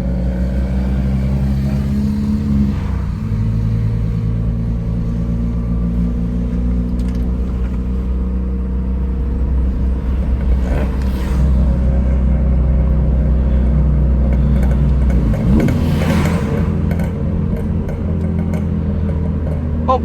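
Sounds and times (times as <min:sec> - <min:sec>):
car engine running: 0:00.0 - 0:20.0
low road rumble: 0:00.0 - 0:20.0.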